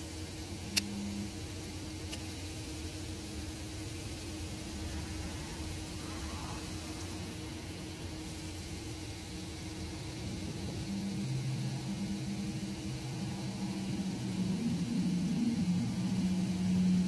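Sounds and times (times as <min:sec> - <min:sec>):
deep droning tone: 0:00.0 - 0:02.0, 0:02.6 - 0:17.0.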